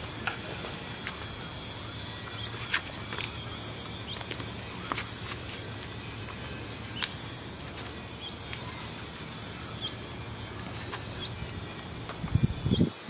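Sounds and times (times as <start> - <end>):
faint high chirps: 1.1 - 13.0.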